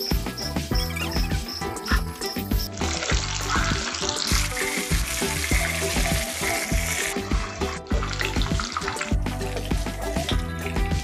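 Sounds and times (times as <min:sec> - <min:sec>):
background music with a beat: 0:00.0 - 0:11.0
fish sizzling in hot oil: 0:00.0 - 0:11.0.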